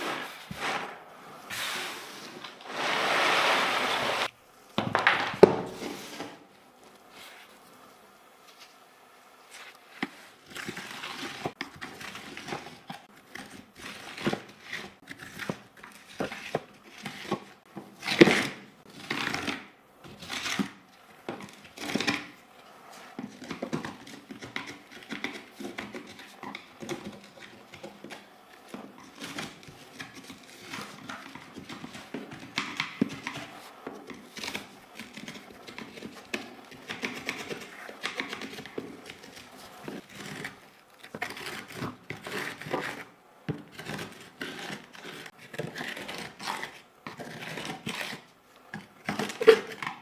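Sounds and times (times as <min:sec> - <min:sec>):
plastic scraping and rustling: 0:00.0 - 0:07.6, 0:09.5 - 0:50.0.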